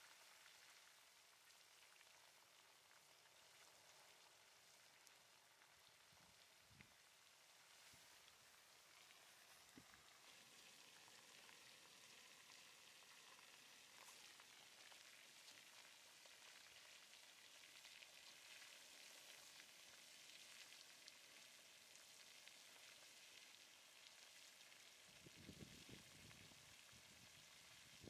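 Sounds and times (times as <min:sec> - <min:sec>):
lava crackling and sizzling: 0:00.0 - 0:28.0.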